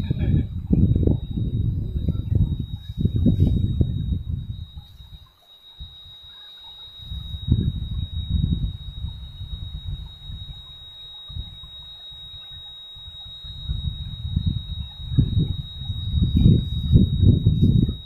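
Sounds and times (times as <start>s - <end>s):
wind buffeting microphone: 0.0s - 6.2s, 7.0s - 18.0s
high-pitched whine: 0.0s - 18.0s.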